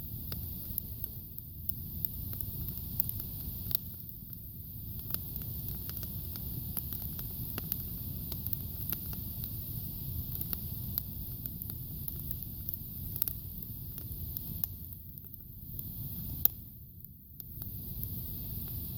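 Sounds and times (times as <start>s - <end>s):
campfire flames rumbling: 0.0s - 18.9s
wood crackling and popping: 0.0s - 18.9s.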